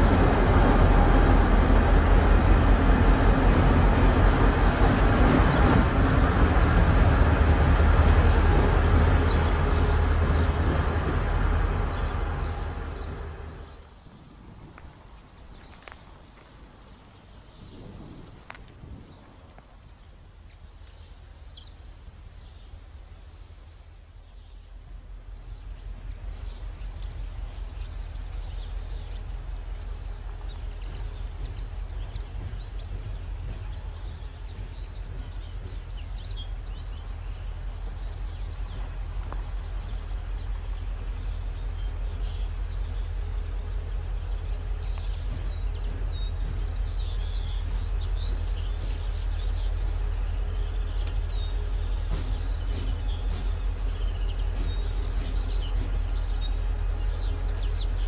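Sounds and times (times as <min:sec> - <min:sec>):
birds chirping: 0:00.0 - 0:14.3, 0:20.7 - 0:58.0
train rumble: 0:00.0 - 0:58.0.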